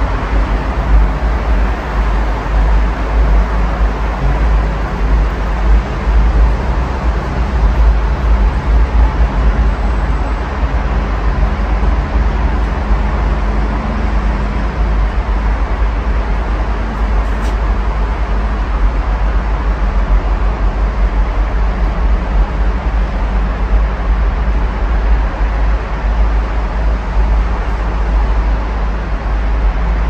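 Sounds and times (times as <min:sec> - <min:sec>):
cars passing on road: 0:00.0 - 0:30.0
deep traffic rumble: 0:00.0 - 0:30.0.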